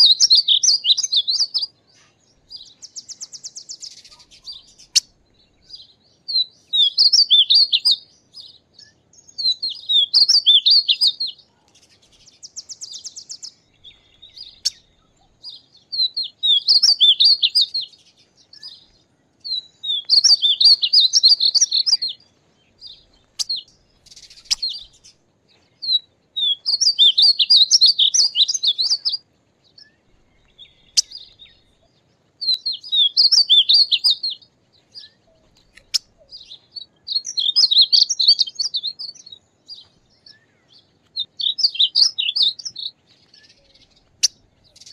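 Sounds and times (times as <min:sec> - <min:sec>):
bird singing warbling phrases: 0:00.0 - 0:44.9.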